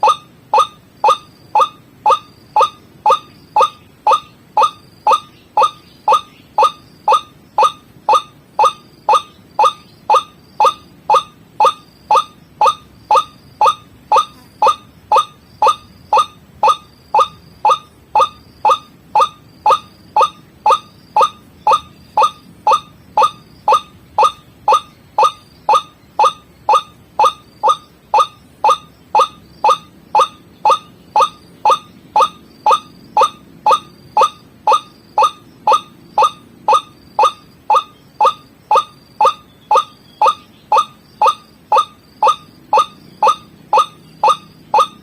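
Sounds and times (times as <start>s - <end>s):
waterhen calls: 0.0s - 45.0s.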